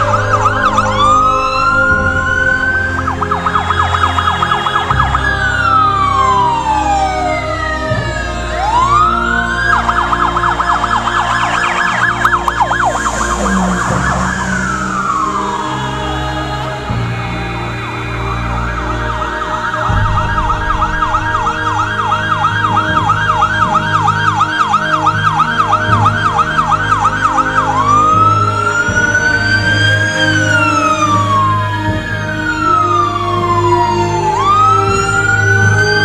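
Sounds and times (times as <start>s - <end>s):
fire engine siren: 0.0s - 36.0s
truck engine rumbling: 0.0s - 36.0s.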